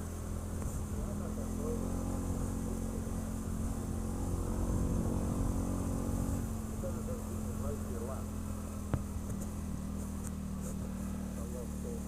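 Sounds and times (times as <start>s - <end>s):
atv engine droning: 0.0s - 12.0s.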